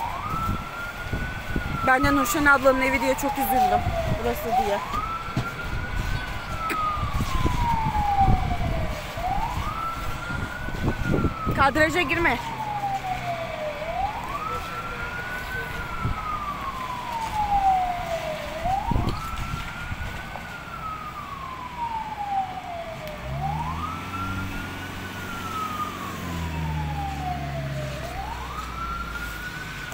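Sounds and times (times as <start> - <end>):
emergency siren wailing: 0.0 - 29.9
vehicle engine humming: 0.0 - 29.9.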